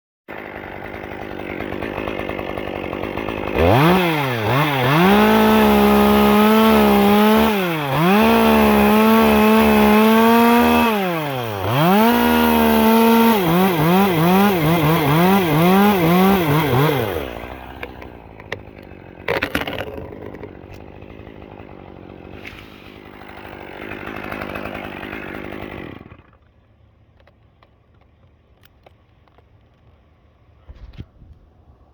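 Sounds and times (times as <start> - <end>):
chainsaw idling and revving: 0.3 - 26.6.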